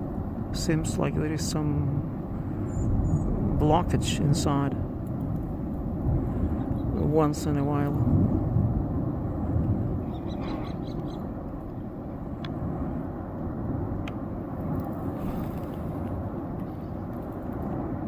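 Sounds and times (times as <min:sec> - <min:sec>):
volcano deep rumbling roar: 0:00.0 - 0:18.0.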